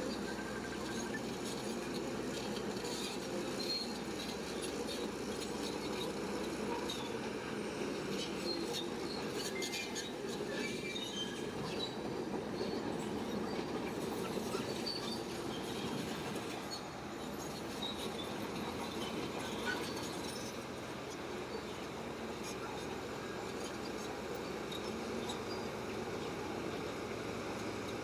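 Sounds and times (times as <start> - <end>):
bulldozer engine rumble: 0.0 - 28.0
bulldozer tracks squealing and clinking: 0.0 - 28.0.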